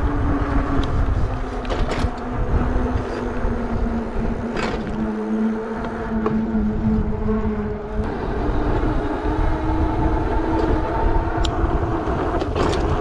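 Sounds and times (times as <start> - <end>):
electric motor whining: 0.0 - 13.0
tyres rumbling: 0.0 - 13.0
wind: 0.0 - 13.0.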